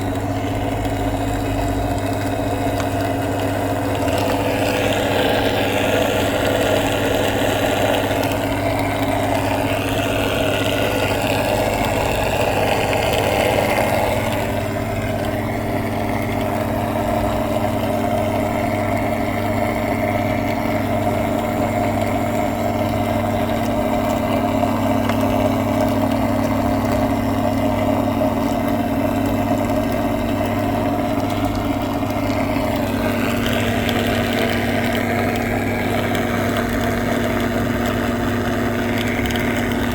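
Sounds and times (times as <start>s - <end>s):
droning tones: 0.0s - 39.9s
washing machine motor hum: 0.0s - 39.9s.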